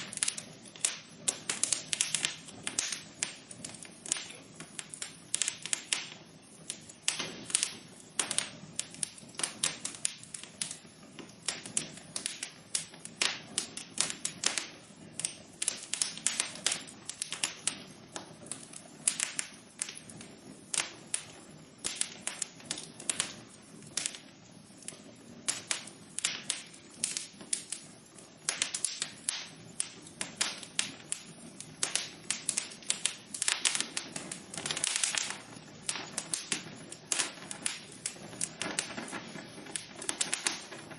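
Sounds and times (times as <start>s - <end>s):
soft hiss of burning: 0.0s - 40.9s
wood fire crackling: 0.0s - 40.9s.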